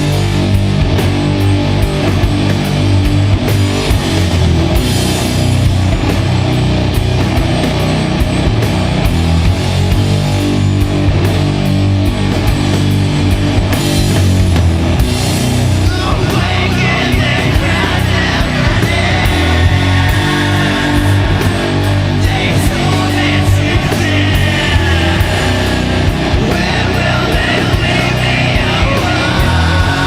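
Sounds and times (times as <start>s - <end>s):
distorted guitars and bass: 0.0s - 30.0s
drums with cymbal strokes: 0.0s - 30.0s.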